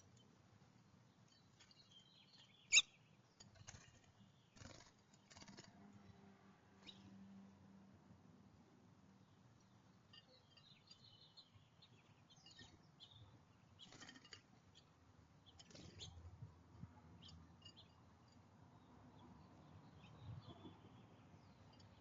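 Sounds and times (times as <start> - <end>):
small songbirds chirping: 0.0 - 6.2, 6.8 - 7.2, 9.1 - 22.0.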